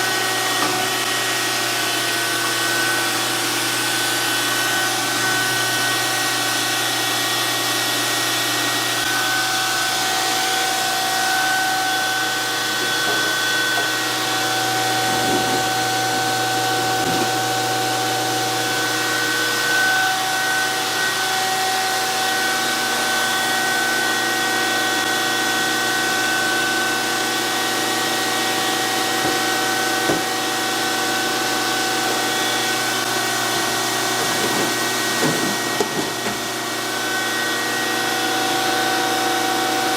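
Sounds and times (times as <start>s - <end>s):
surface grinder whining: 0.0s - 39.9s.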